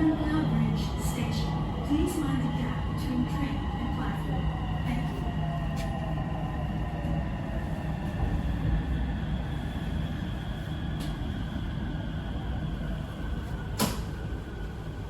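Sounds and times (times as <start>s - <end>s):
metro train rumble: 0.0s - 15.0s.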